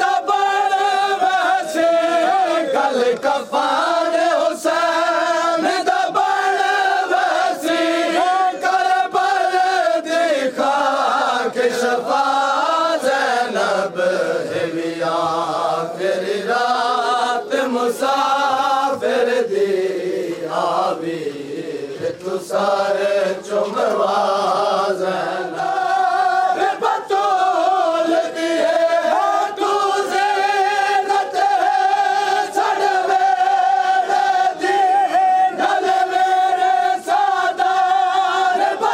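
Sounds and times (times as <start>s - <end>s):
crowd of men chanting: 0.0s - 38.9s
man singing into microphone: 0.0s - 38.9s.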